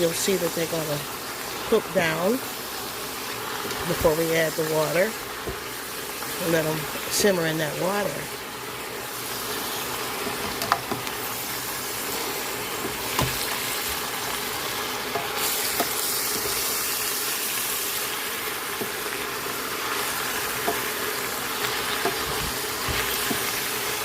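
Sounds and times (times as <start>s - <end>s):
greens sizzling in hot grease: 0.0s - 24.0s.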